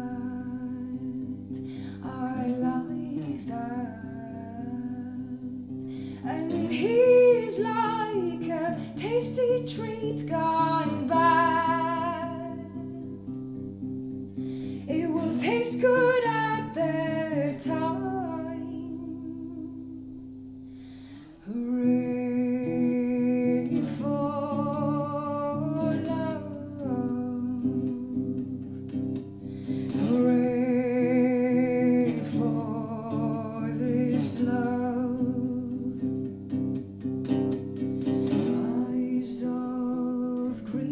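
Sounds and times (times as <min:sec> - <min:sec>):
woman singing: 0:00.0 - 0:13.6, 0:14.4 - 0:20.3, 0:21.2 - 0:40.9
electric guitar chords: 0:00.0 - 0:39.1.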